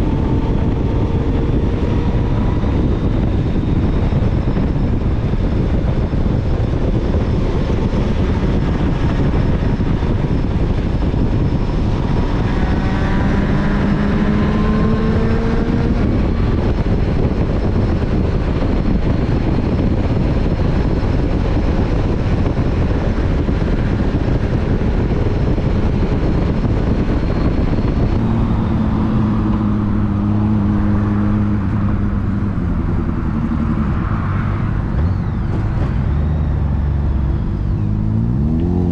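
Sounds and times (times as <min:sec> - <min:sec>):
motorcycle engine: 0:00.0 - 0:38.9
wind noise over microphone: 0:00.0 - 0:38.9.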